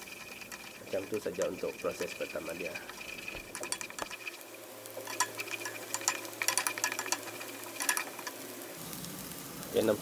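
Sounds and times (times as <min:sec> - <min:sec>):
wooden spatula scraping a wok: 0:00.0 - 0:08.4
garlic and onion sizzling in oil: 0:00.0 - 0:10.0.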